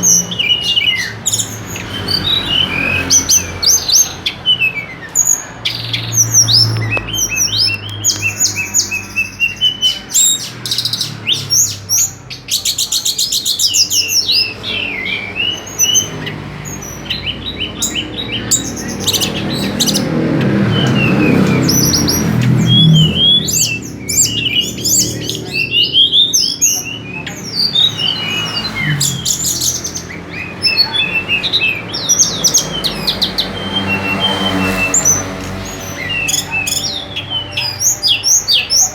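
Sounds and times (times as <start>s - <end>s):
low background murmur: 0.0s - 38.9s
songbird singing: 0.0s - 38.9s.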